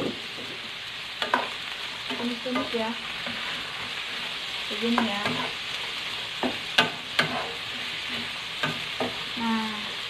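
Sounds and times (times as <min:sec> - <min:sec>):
shrimp sizzling in a frying pan: 0:00.0 - 0:10.0
spatula scraping a pan: 0:01.2 - 0:10.0.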